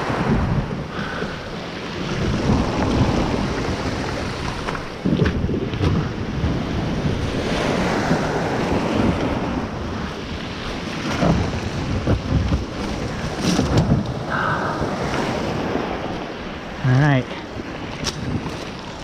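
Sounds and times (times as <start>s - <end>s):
waves breaking on pebble beach: 0.0s - 19.0s
wind buffeting microphone: 0.0s - 19.0s.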